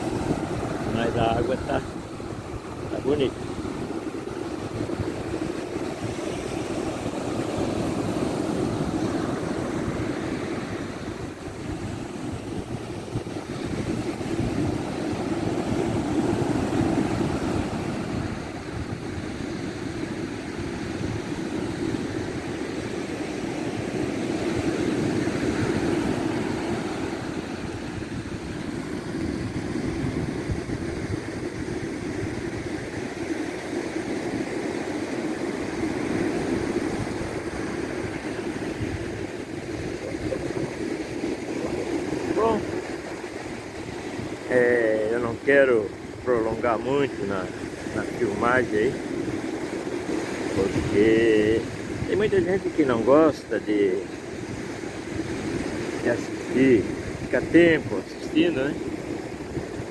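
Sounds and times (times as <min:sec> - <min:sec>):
ocean surf breaking: 0:00.0 - 0:59.9
wind rumbling on microphone: 0:00.0 - 0:59.9.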